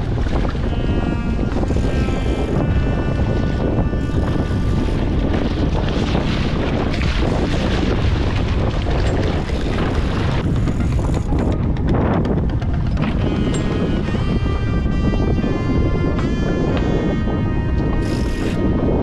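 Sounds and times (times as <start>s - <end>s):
boat engine rumble: 0.0s - 19.0s
wind buffeting microphone: 0.0s - 19.0s.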